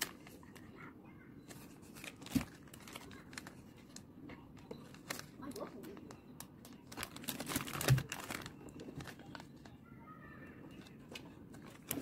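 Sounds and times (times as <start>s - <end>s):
plastic wrappers crinkling: 0.0s - 0.8s, 1.5s - 9.8s, 10.7s - 12.0s.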